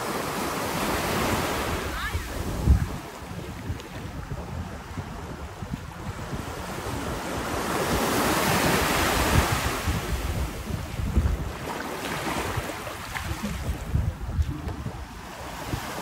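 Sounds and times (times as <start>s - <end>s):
small waves washing onto sand: 0.0s - 16.0s
wind buffeting microphone: 1.0s - 16.0s.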